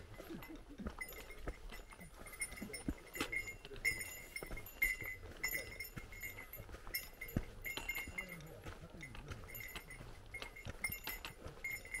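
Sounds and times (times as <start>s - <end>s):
light footsteps on trail: 0.0s - 12.0s
small bell jingling: 0.0s - 12.0s.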